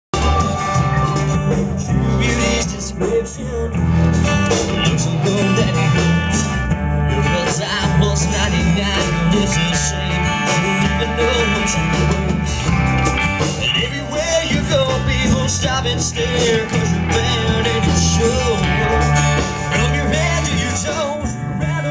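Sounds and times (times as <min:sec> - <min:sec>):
acoustic guitar: 0:00.1 - 0:21.9
drum and percussion beat: 0:00.1 - 0:21.9
live band playing country song: 0:00.1 - 0:21.9.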